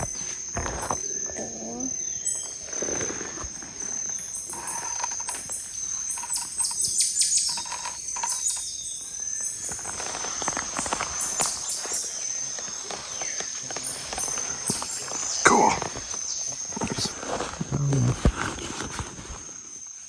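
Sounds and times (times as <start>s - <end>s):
birds calling: 0.0s - 18.2s
high-pitched insect drone: 0.0s - 18.2s.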